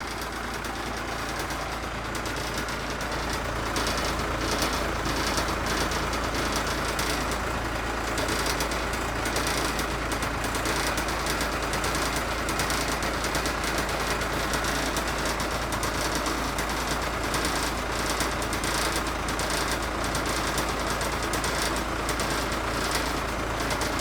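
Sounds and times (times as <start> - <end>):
diesel bus engine rumbling: 0.0 - 24.0.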